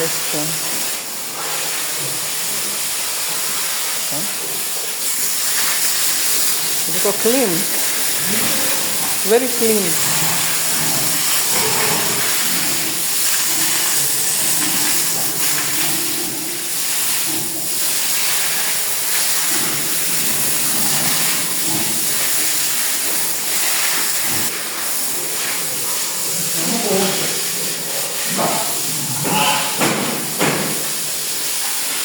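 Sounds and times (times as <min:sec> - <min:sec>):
water spraying from a hose: 0:00.0 - 0:32.0.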